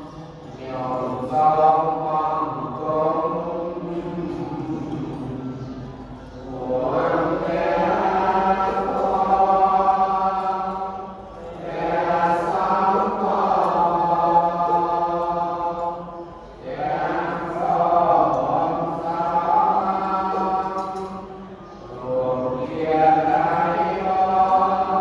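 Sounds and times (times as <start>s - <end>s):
group chanting in unison: 0.0s - 25.0s.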